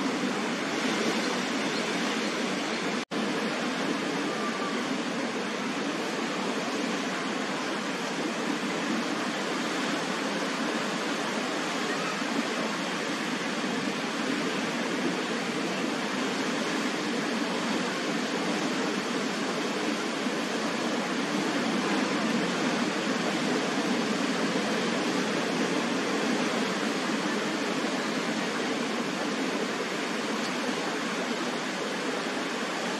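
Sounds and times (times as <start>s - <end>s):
ocean surf breaking: 0.0s - 32.9s.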